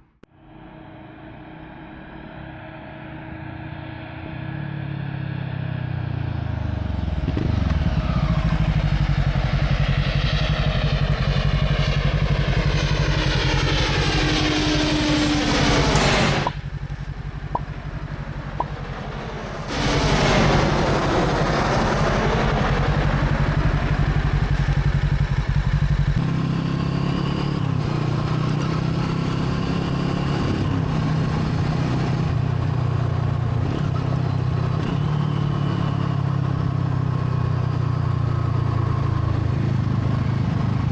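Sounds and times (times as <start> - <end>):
motorcycle driving past: 1.6 - 40.9.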